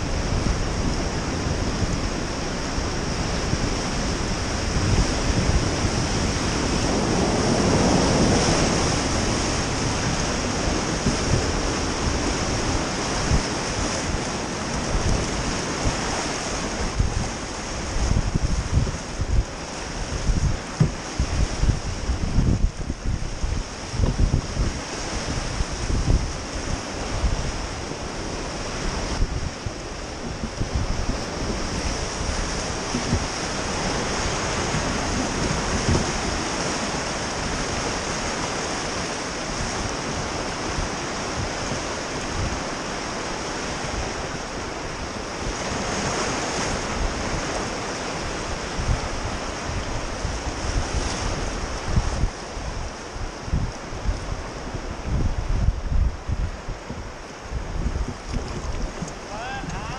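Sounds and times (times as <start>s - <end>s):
whitewater rapids rushing: 0.0s - 22.5s, 24.6s - 50.6s, 58.9s - 59.9s
wind rumbling on microphone: 0.0s - 59.9s.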